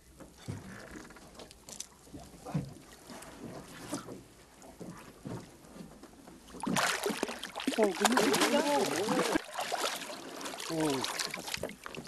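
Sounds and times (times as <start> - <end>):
water slapping against boat: 0.1 - 12.0.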